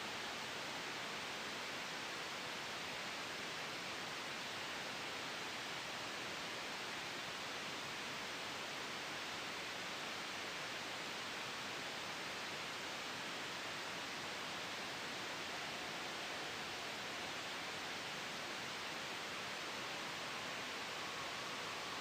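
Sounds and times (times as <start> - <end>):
steady white-noise hiss: 0.0 - 22.0.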